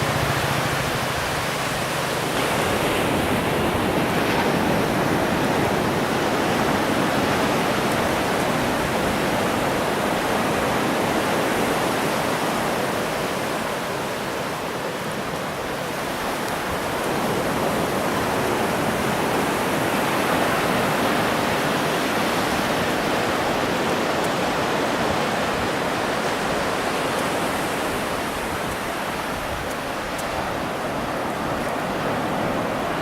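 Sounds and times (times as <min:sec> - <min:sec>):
ocean surf washing: 0:00.0 - 0:33.0.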